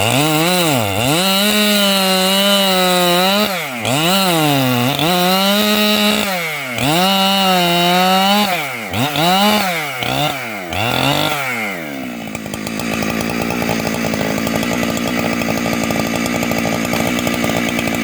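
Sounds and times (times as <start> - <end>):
chainsaw engine revving and idling: 0.0 - 18.0.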